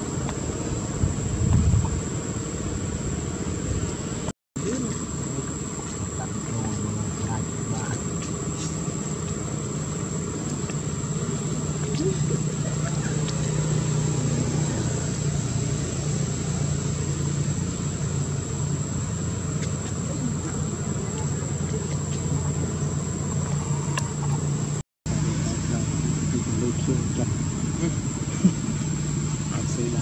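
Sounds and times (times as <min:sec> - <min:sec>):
high-pitched whine: 0:00.0 - 0:30.0
low mechanical hum: 0:00.0 - 0:30.0.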